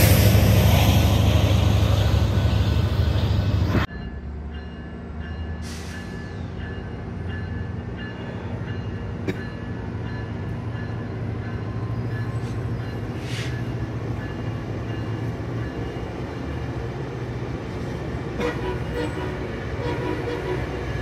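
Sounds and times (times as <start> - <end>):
train rolling past humming: 0.0 - 21.0.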